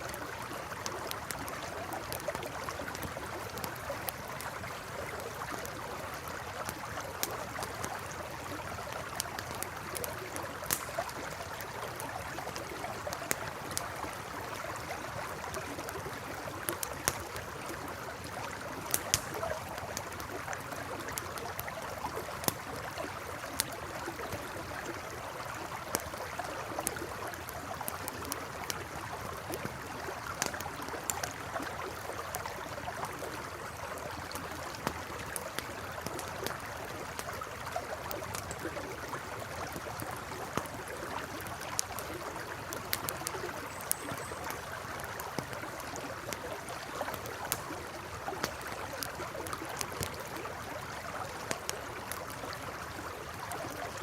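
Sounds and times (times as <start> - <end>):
campfire crackling and popping: 0.0 - 54.0
river flowing: 0.0 - 54.0.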